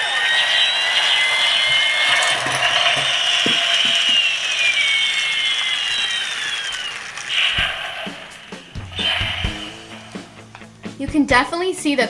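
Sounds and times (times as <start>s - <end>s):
toy helicopter rotor whir: 0.0s - 10.3s.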